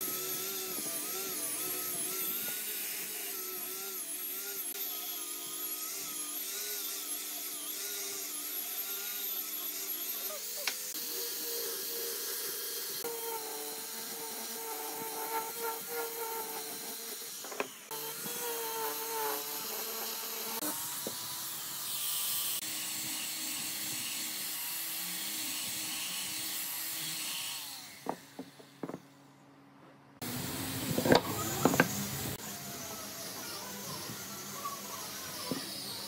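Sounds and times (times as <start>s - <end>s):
die grinder motor whine: 0.0s - 29.0s, 30.2s - 36.0s.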